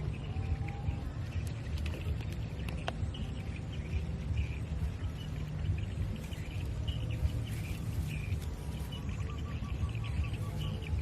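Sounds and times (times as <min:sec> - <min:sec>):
faint high chirps: 0:00.0 - 0:11.0
steady low rumble: 0:00.0 - 0:11.0.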